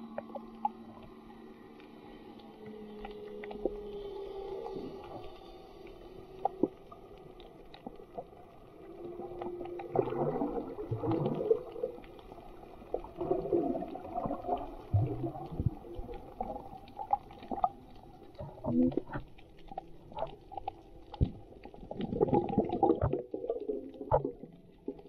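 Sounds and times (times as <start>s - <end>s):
underwater bubbling and gurgling: 0.0s - 25.0s.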